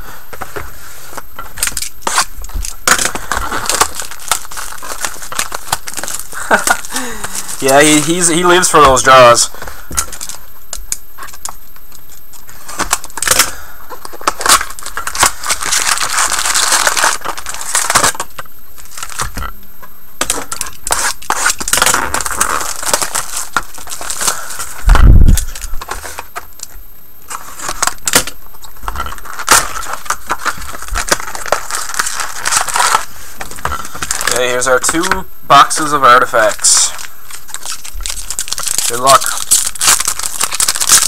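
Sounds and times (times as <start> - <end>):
shrink wrap crinkling and tearing: 1.4 - 19.3, 20.2 - 26.7, 27.3 - 41.0.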